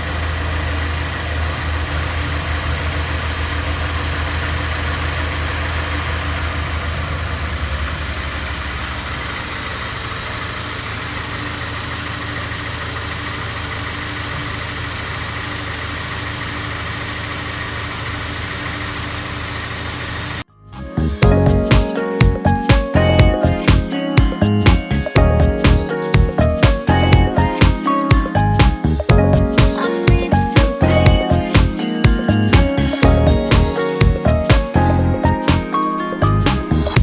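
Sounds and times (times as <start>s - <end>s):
road noise: 0.0s - 31.8s
car engine running: 0.0s - 37.0s
low engine rumble: 0.0s - 37.0s.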